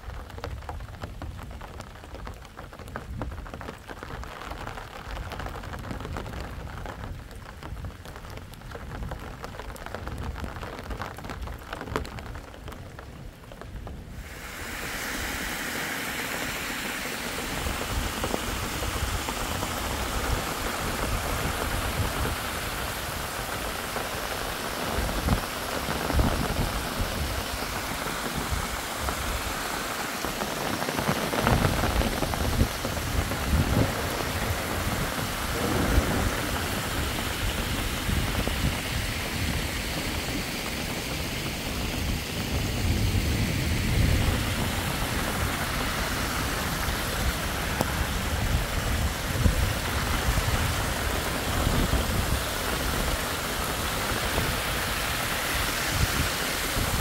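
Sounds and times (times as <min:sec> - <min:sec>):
rain falling on rock: 0:00.0 - 0:57.0.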